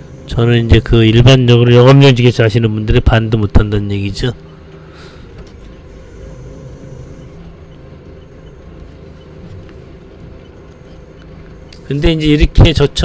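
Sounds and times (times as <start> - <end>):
forklift engine rumbling: 0.0 - 13.0.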